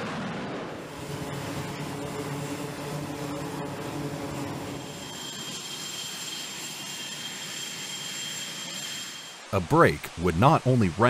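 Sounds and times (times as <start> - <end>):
jet engine high-pitched whine: 0.0 - 10.2
jet engine low drone: 0.0 - 11.0.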